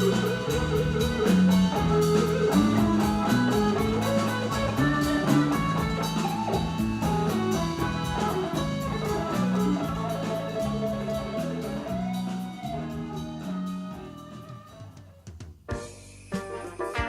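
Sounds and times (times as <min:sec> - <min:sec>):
bass notes: 0:00.0 - 0:14.9
guitar lines: 0:00.0 - 0:17.0
steady drum beat: 0:00.0 - 0:17.0.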